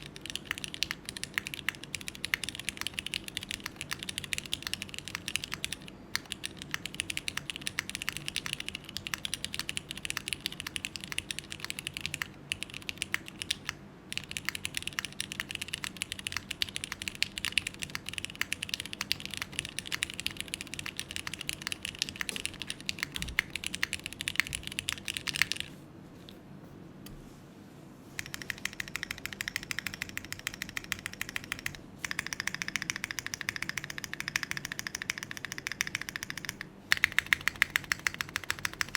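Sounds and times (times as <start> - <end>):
fast typing on mechanical keyboard: 0.0 - 25.7, 28.2 - 38.9.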